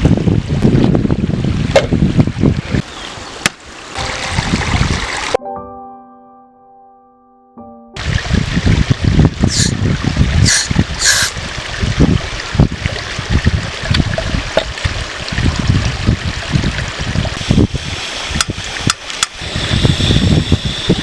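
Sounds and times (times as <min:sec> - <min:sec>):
wind rumbling on microphone: 0:00.0 - 0:03.3, 0:04.2 - 0:05.3, 0:08.0 - 0:21.0
rushing stream water: 0:00.0 - 0:05.4, 0:08.0 - 0:19.7.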